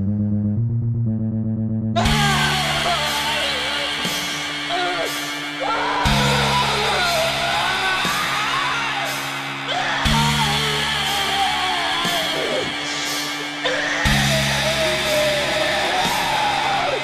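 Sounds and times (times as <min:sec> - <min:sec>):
person singing: 0:02.0 - 0:17.0
rock band music: 0:02.0 - 0:17.0.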